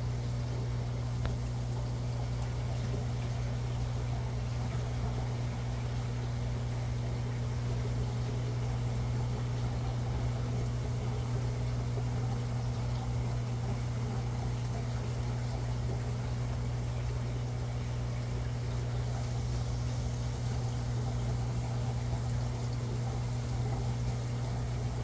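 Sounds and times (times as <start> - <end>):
aquarium equipment hum: 0.0 - 25.0.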